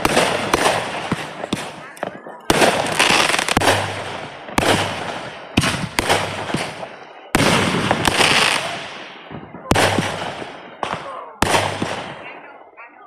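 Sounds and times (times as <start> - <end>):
fireworks bangs with crackling: 0.0 - 12.6.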